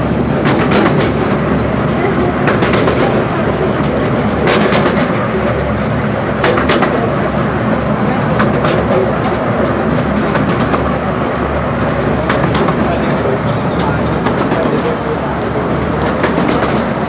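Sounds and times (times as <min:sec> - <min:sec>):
train carriages rumbling: 0:00.0 - 0:17.0
wheels clicking over rail joints: 0:00.0 - 0:17.0.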